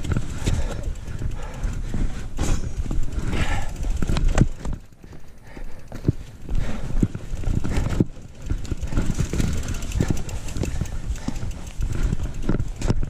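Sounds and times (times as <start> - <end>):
bike rattling and thudding: 0.0 - 13.0
wind rumble on microphone: 0.0 - 13.0.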